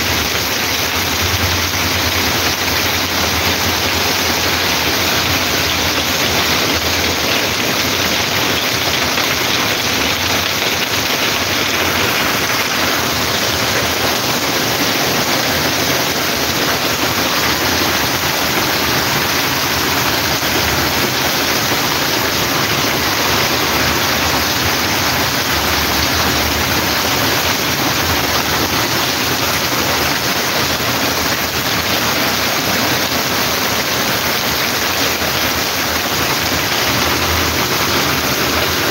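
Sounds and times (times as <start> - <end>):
heavy rain pouring: 0.0 - 38.9
runoff water rushing: 0.0 - 38.9.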